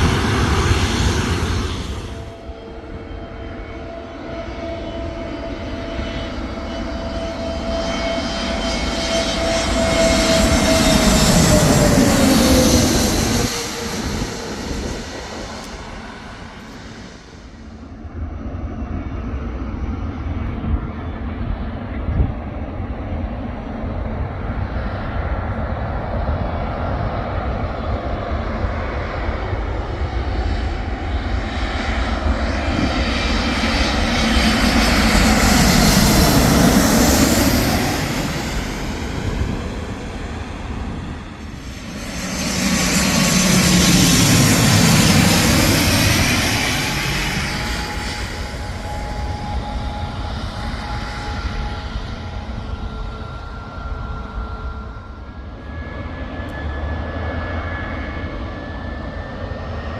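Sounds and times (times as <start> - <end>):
airliner engine roar overhead: 0.0 - 59.9.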